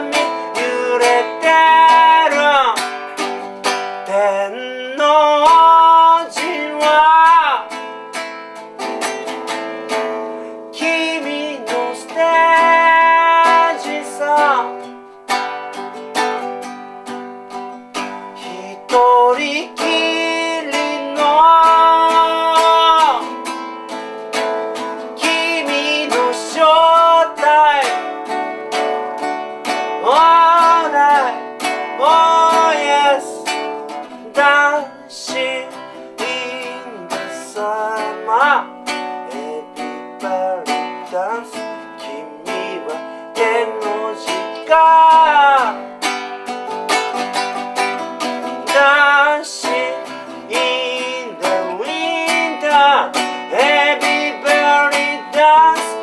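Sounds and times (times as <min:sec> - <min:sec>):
man singing: 0:00.0 - 0:15.0, 0:15.8 - 0:56.0
strummed classical guitar: 0:00.0 - 0:56.0.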